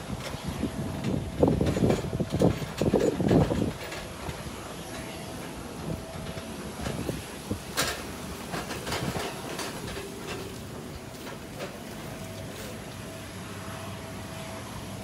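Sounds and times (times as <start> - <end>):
faint steady whine: 0.0 - 15.0
mechanical rumble: 0.0 - 15.0.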